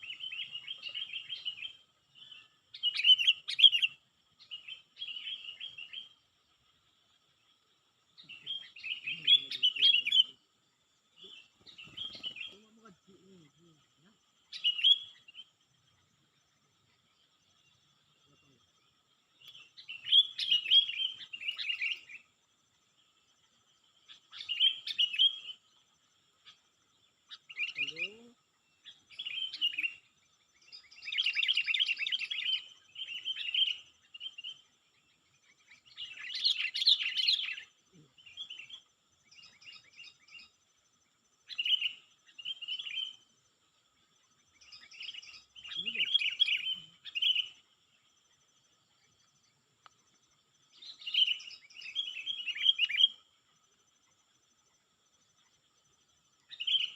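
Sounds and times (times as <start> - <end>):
bird chirping: 0.0 - 56.9.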